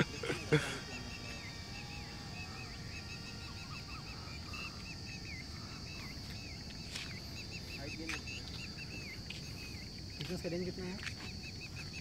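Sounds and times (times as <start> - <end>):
birds chirping: 0.0 - 12.0
high-pitched insect drone: 0.0 - 12.0.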